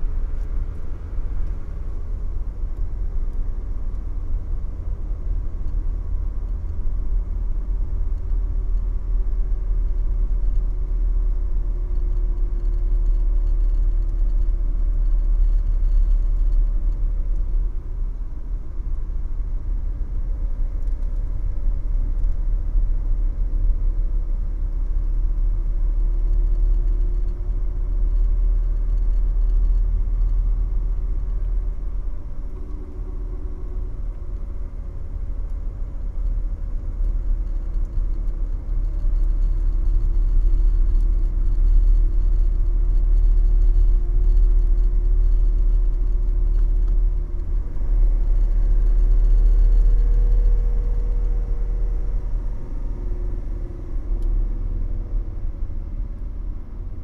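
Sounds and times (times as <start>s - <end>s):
diesel car engine and road rumble: 0.0s - 57.0s.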